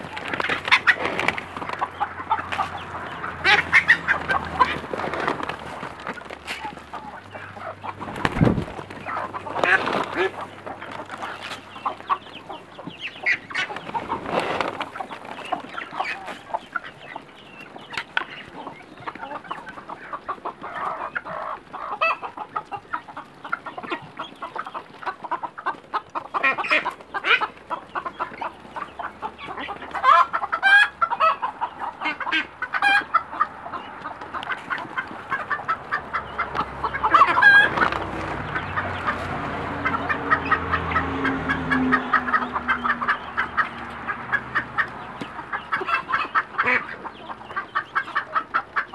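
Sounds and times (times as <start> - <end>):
bills pecking grain: 0.0 - 48.9
chickens clucking: 0.0 - 48.9.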